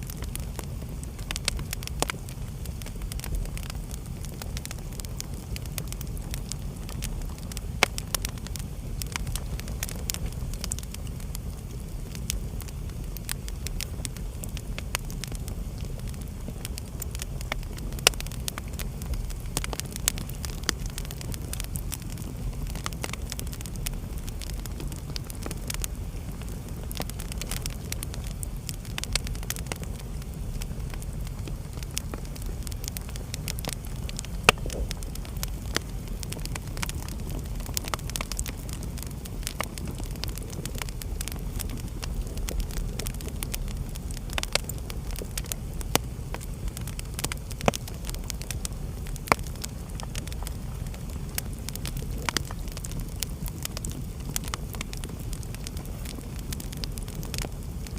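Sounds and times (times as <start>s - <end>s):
fire crackling and popping: 0.0s - 57.9s
low rumble of flame: 0.0s - 57.9s.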